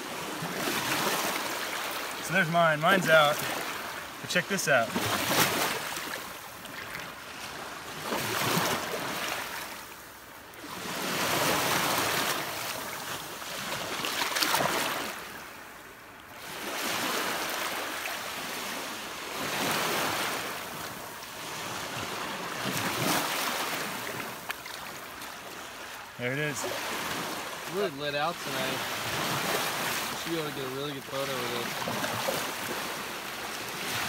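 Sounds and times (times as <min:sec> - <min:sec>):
small waves washing up beach: 0:00.0 - 0:34.0.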